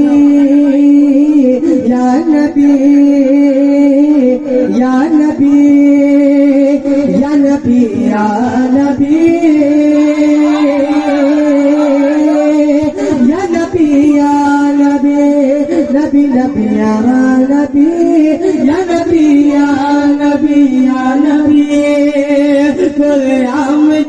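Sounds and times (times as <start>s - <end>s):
men singing into microphones: 0.0s - 24.0s.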